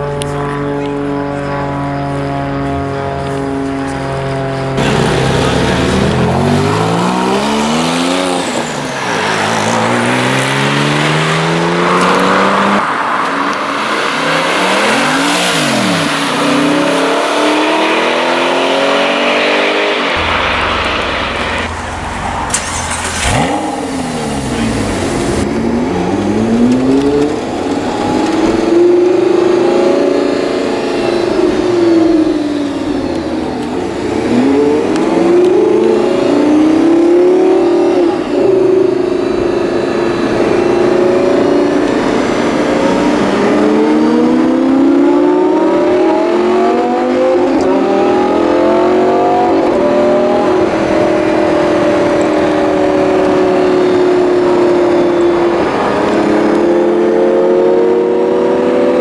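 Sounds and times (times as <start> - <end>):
car engine revving and upshifting: 0.0 - 59.0.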